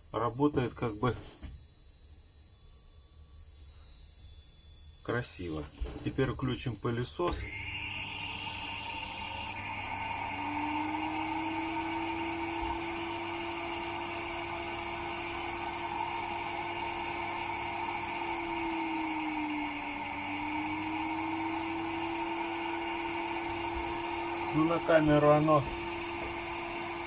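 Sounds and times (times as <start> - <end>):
drill handpiece whine: 0.0 - 27.0
vacuum motor whining: 3.0 - 27.0.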